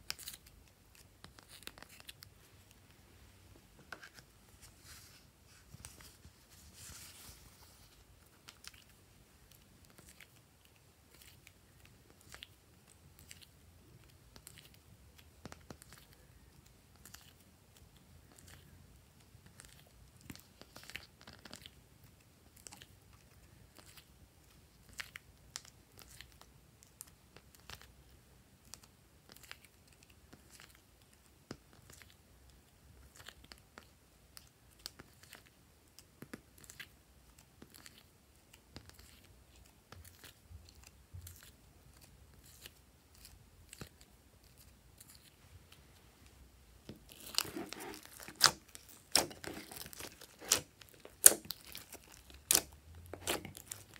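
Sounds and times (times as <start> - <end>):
slime crackling and squishing: 0.0 - 3.0, 4.0 - 53.9.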